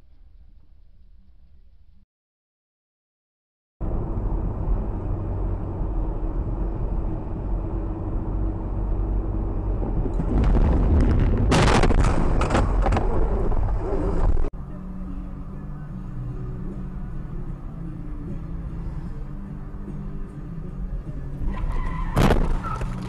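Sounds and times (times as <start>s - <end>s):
vehicle road and engine rumble: 3.8s - 23.0s.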